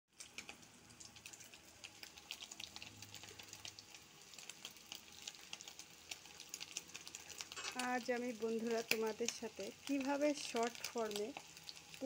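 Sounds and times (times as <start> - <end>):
hot oil crackling and popping: 0.1 - 12.0.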